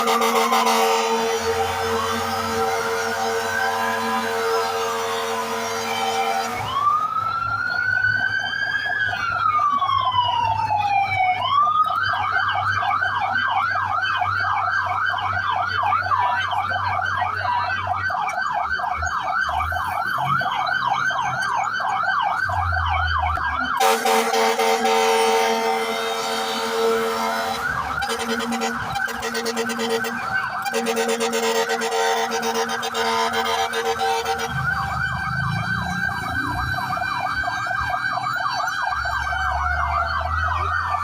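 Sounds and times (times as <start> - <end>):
fire truck siren wailing and yelping: 0.0 - 41.0.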